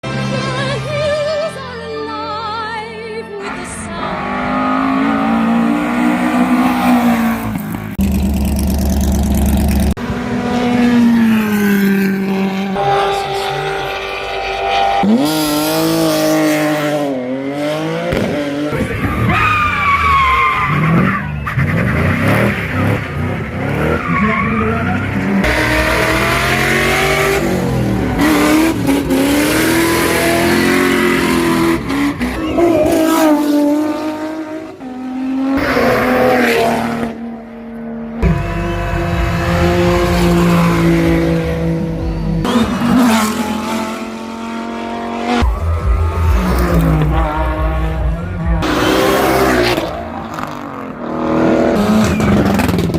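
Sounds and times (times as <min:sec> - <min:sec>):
race cars at full throttle: 0:00.0 - 0:52.9.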